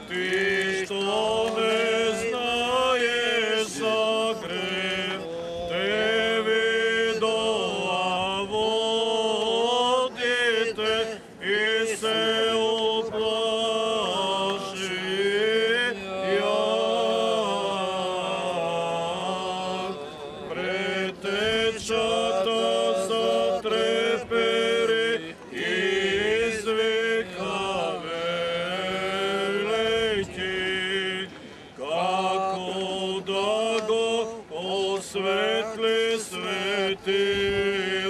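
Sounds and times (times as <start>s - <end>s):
men chanting a hymn: 0.0s - 38.0s.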